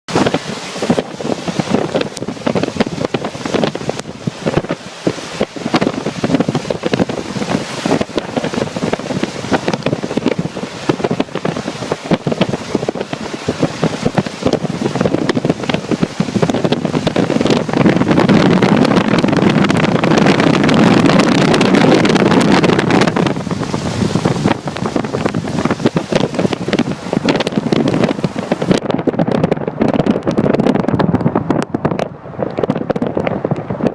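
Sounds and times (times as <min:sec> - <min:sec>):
wind buffeting microphone: 0:00.1 - 0:33.9.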